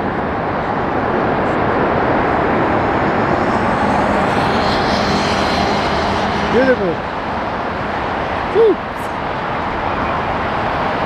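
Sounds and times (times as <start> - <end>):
high jet whine: 0.0 - 11.0
jet engines rushing: 0.0 - 11.0.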